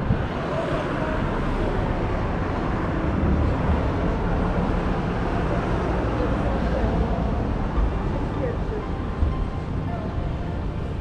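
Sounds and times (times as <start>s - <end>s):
cars driving along road: 0.0s - 11.0s.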